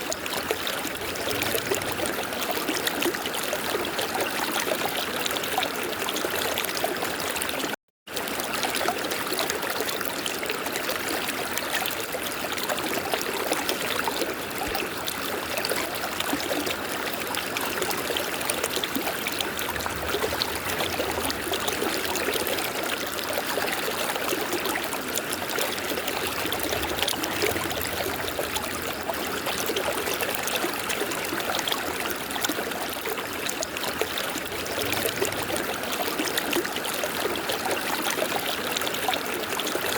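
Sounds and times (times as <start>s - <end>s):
river water flowing: 0.3s - 4.0s, 8.4s - 39.9s.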